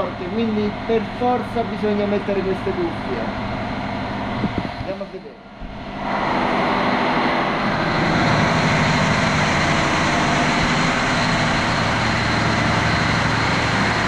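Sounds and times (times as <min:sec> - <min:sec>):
generators mechanical din: 0:00.0 - 0:14.0
low hum: 0:00.0 - 0:14.0.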